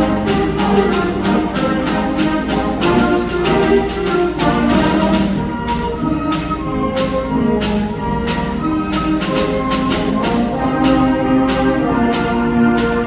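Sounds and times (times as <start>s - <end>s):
brass and woodwind chords: 0.0s - 13.0s.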